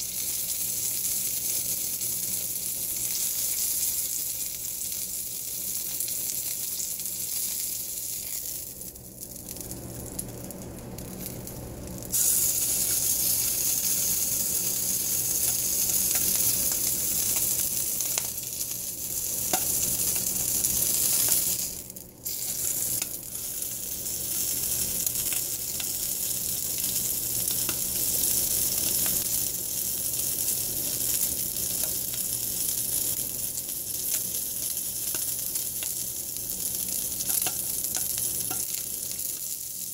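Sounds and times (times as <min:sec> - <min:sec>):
bacon sizzling in frying pan: 0:00.0 - 0:39.9.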